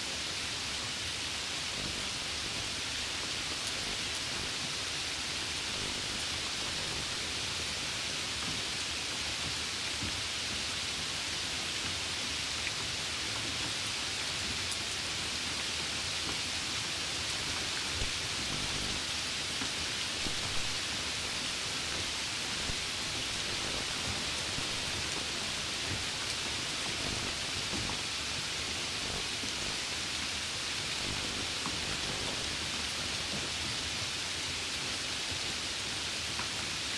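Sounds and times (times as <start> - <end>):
steady high hiss: 0.0 - 36.9.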